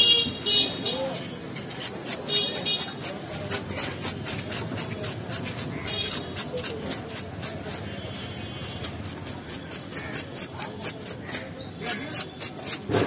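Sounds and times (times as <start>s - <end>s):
knife scraping fish scales: 1.0s - 13.0s.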